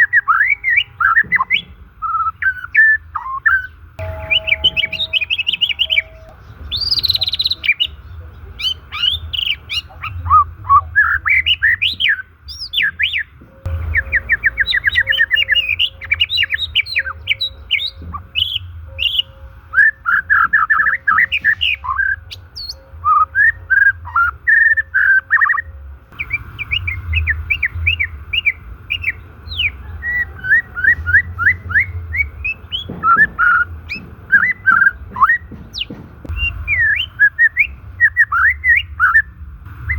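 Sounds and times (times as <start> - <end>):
songbird whistling and chirping: 0.0 - 39.9.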